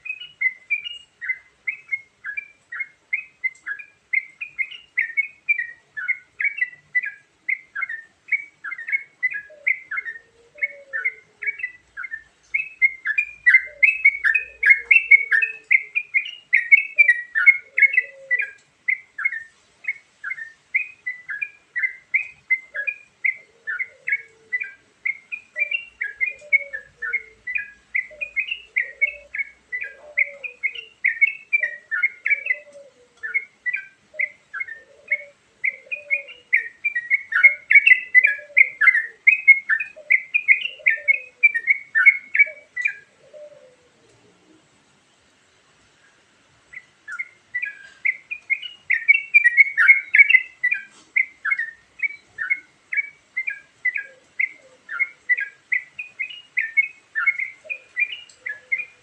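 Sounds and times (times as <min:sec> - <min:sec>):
bird chattering chirps: 0:00.0 - 0:43.5, 0:46.7 - 0:59.0.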